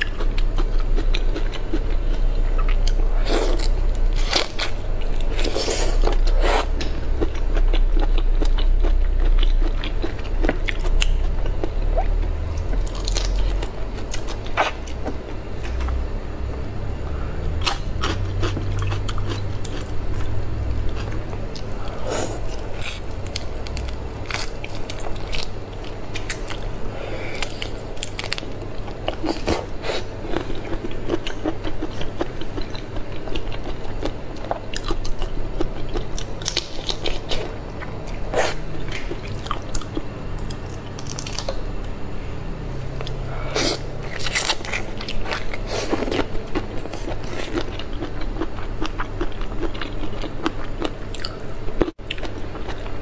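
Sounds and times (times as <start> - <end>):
chewing shrimp: 0.0 - 16.0, 17.5 - 41.6, 43.0 - 53.0.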